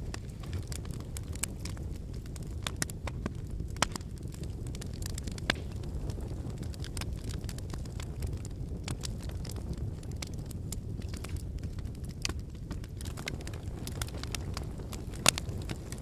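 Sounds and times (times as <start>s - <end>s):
campfire flame rushing: 0.0s - 16.0s
firewood crackling and popping: 0.0s - 16.0s.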